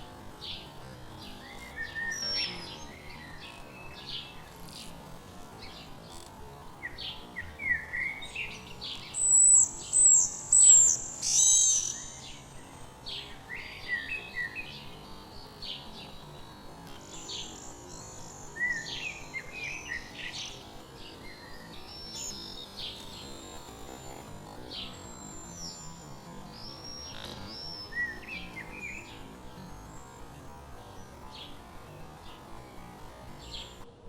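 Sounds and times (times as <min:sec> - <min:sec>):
songbirds chirping and calling: 0:00.4 - 0:05.0, 0:05.6 - 0:33.8.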